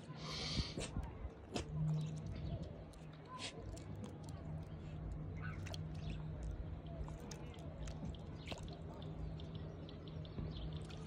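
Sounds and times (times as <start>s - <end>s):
low background hum: 0.0s - 11.0s
water dripping and splashing: 1.0s - 11.0s.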